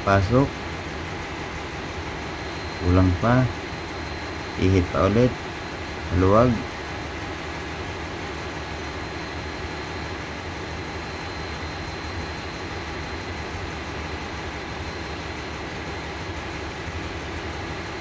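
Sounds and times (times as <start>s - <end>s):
engine room machinery drone: 0.0s - 18.0s
faint high whine: 0.0s - 18.0s.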